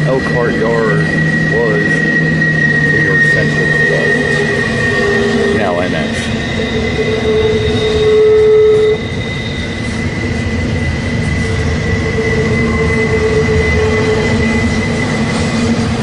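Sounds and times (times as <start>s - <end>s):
freight train rumbling past: 0.0s - 16.0s
wheel squeal on rail: 0.0s - 16.0s.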